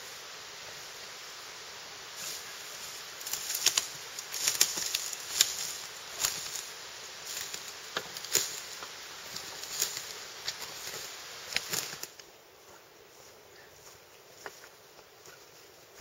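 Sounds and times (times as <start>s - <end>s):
footsteps on forest floor: 2.2s - 16.0s.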